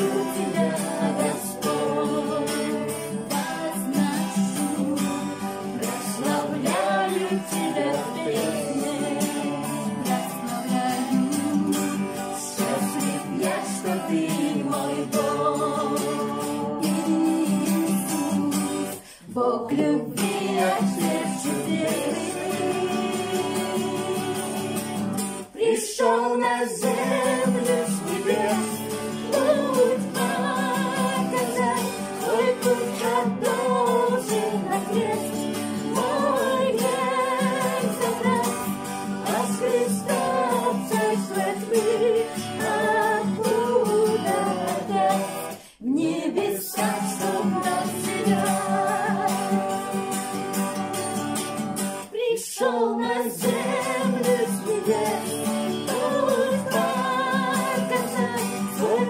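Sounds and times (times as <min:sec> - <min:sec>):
guitar accompaniment: 0:00.0 - 0:59.0
person singing: 0:00.0 - 0:59.0.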